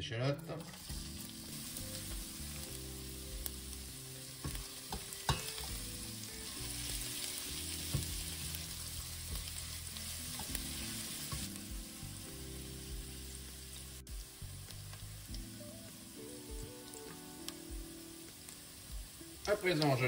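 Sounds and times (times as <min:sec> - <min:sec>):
shallots sizzling in oil: 0:00.4 - 0:20.0.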